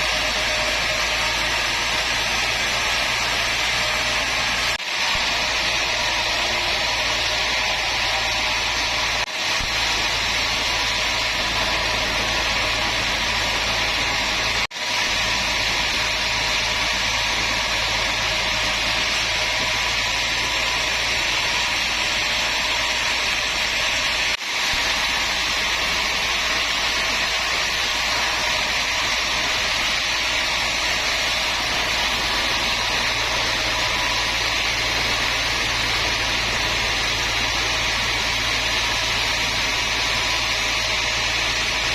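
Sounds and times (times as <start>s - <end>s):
woodworking machine whirring: 0.0s - 41.9s.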